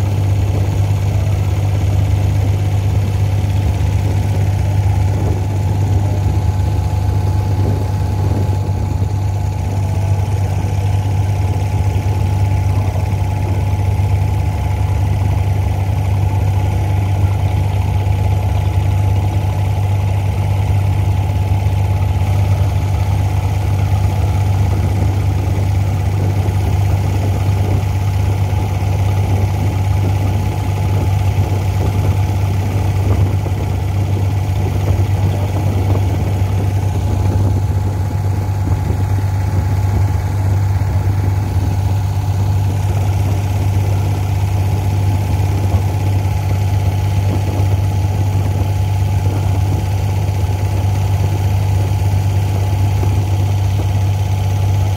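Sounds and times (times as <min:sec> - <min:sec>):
boat diesel engine droning: 0:00.0 - 0:54.9.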